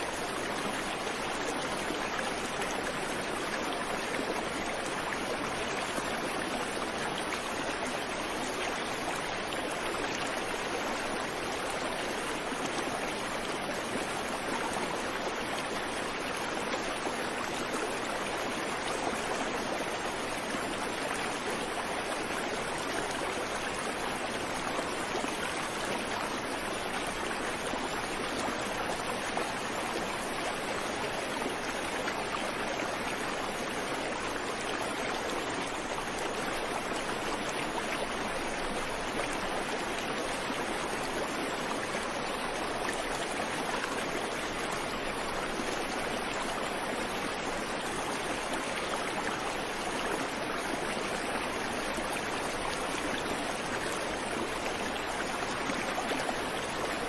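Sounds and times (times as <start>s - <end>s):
creek water babbling over rocks: 0.0s - 57.0s.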